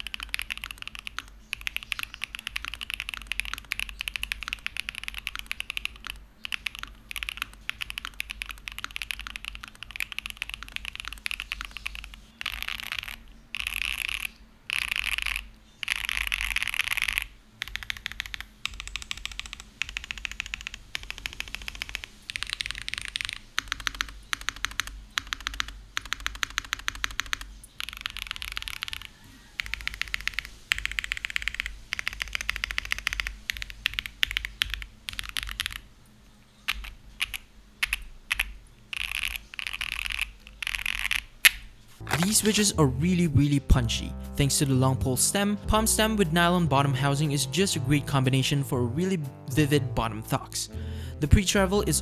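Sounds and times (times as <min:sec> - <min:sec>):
typing on mechanical keyboard: 0:00.0 - 0:35.9, 0:36.6 - 0:42.6.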